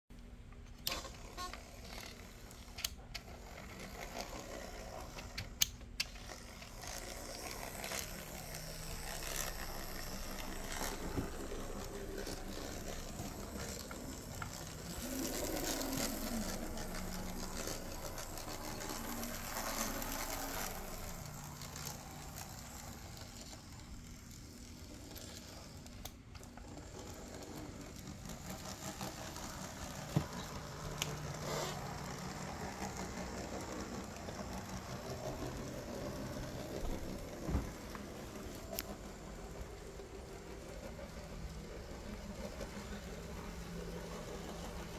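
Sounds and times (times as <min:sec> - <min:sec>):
model locomotive motor whirring: 0:00.5 - 0:44.9.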